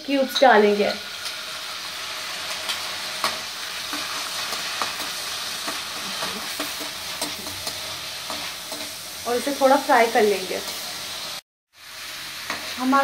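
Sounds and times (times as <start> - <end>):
cheese sizzling in hot oil: 0.0 - 13.0.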